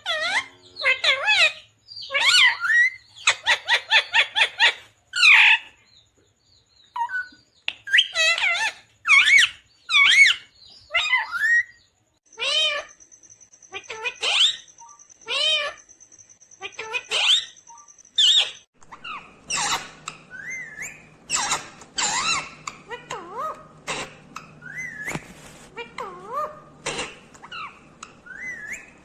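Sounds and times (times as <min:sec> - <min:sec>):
parakeet chirping and squawking: 0:00.0 - 0:05.7, 0:07.9 - 0:13.0, 0:13.7 - 0:15.9, 0:16.6 - 0:29.0.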